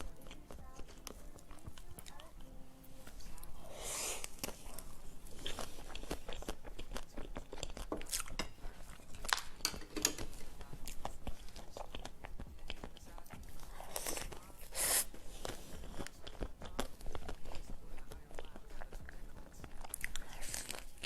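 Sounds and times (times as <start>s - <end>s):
person biting and chewing: 3.6s - 21.0s.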